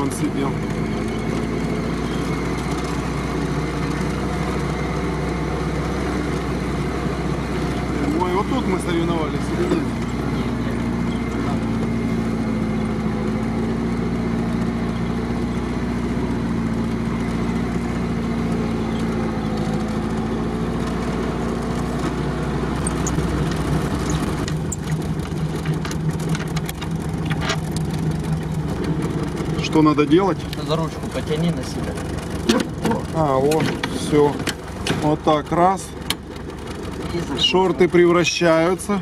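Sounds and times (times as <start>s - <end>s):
engine running at low speed: 0.0s - 39.0s.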